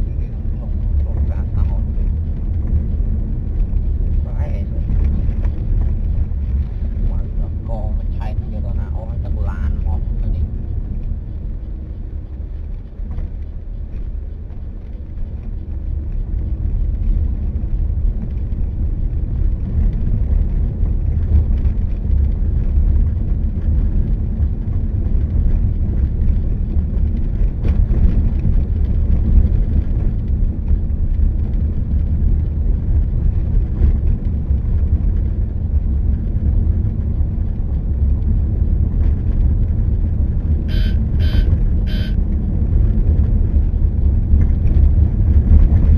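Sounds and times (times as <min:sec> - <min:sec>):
road and wind noise rumble: 0:00.0 - 0:45.9.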